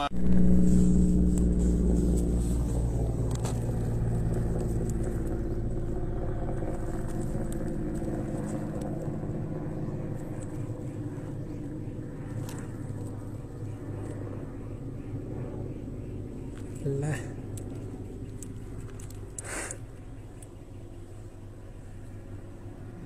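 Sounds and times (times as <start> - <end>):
helicopter drone overhead: 0.0 - 23.0.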